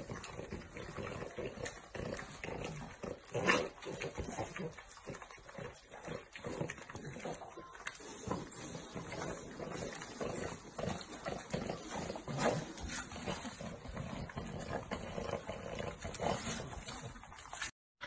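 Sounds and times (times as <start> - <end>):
small dog vocal sounds: 0.0 - 17.7
dogs breathing noisily: 0.0 - 17.8.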